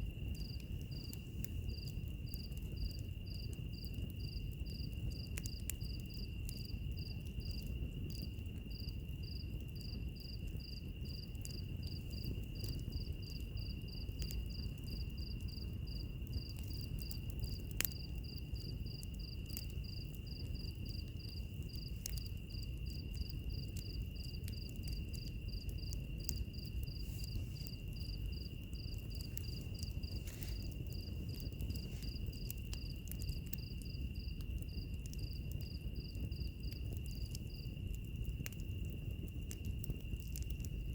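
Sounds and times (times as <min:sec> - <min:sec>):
wood fire hissing and crackling: 0:00.0 - 0:40.9.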